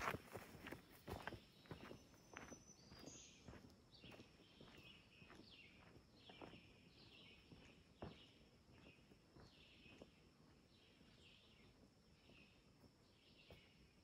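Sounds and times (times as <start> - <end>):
faint footsteps: 0.0 - 13.9
bird chirping: 0.6 - 14.0.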